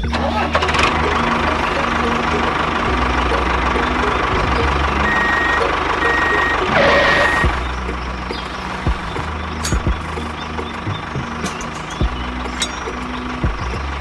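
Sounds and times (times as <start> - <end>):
reversing alarm beeping: 0.0 - 13.5
small vehicle engine running: 0.0 - 14.0.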